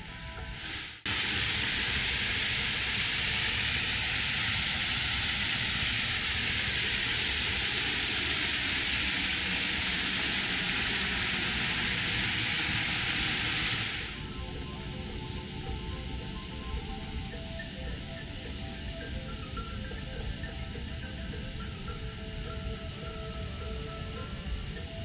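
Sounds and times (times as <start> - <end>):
steady hissing noise: 0.0 - 25.0.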